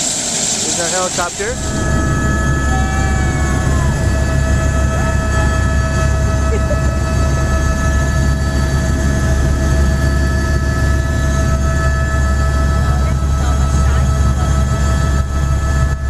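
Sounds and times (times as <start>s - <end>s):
helicopter rotor drone: 0.0s - 16.0s
turbine whine: 0.0s - 16.0s.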